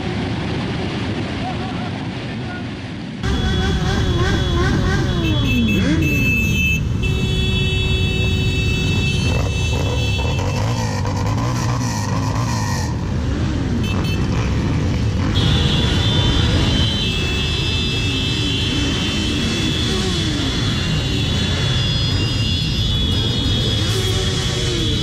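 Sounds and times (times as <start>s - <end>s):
engine droning close by: 0.0s - 25.0s
motorcycle engines revving: 0.0s - 25.0s.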